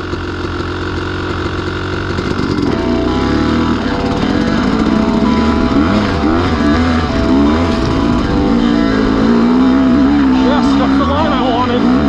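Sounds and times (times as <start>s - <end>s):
dirt bike engine pulling: 0.0s - 12.0s.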